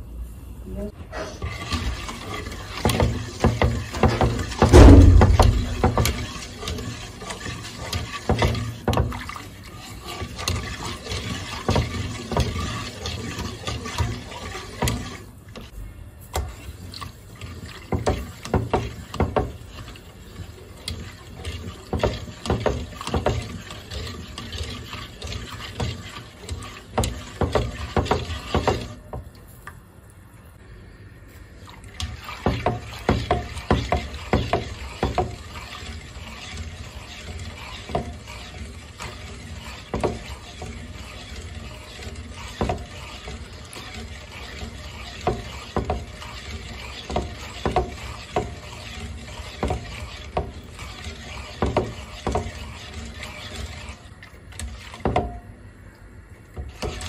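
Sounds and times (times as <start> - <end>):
whisk stirring milk: 1.0 - 29.8, 31.3 - 57.0
whisk tapping pot: 1.4 - 29.8, 31.7 - 57.0.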